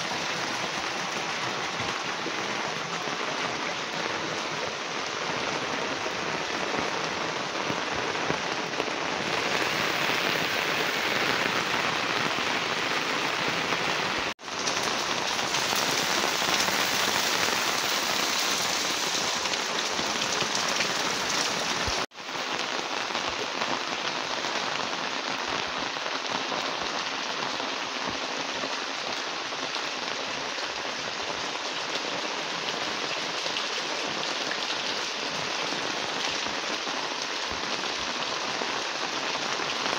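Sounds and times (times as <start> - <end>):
heavy rain on standing water: 0.0 - 39.9.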